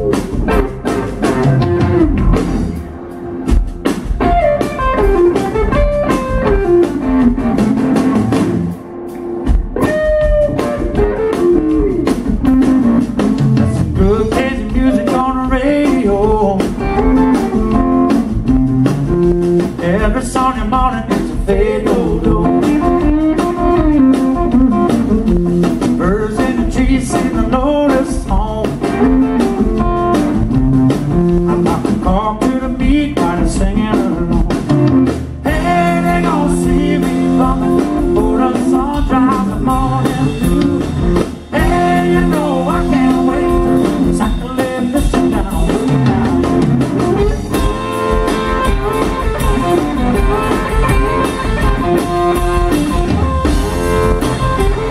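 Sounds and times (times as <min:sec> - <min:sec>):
bending electric guitar notes: 0:00.0 - 0:20.1, 0:21.6 - 0:32.1, 0:34.2 - 0:54.9
blues band playing: 0:00.0 - 0:54.9.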